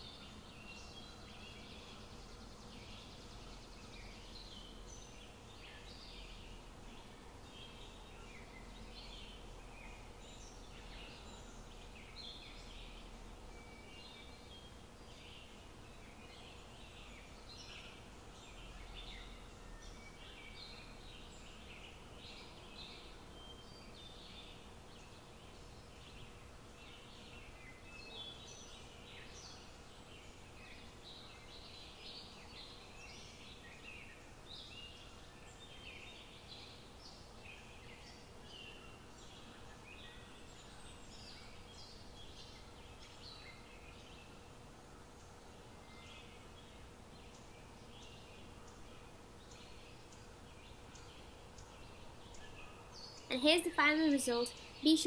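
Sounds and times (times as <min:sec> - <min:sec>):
bird chirping: 0:00.0 - 0:55.0
steady faint hum: 0:00.0 - 0:55.0.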